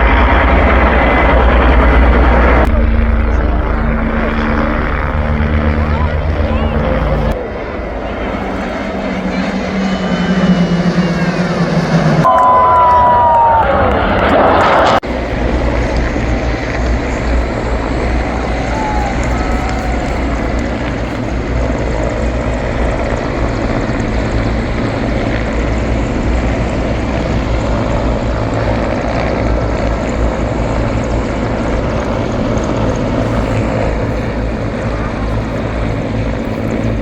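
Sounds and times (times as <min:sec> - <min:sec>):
aircraft engine drone: 0:00.0 - 0:37.0.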